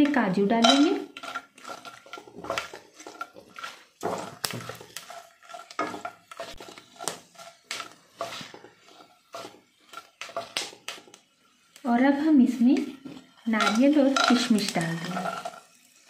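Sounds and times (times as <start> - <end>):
spatula scraping and tapping pan: 0.0 - 11.8, 12.6 - 16.0.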